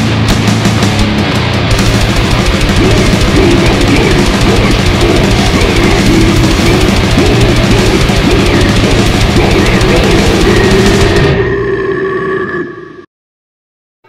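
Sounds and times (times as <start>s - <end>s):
death metal music: 0.0s - 13.0s.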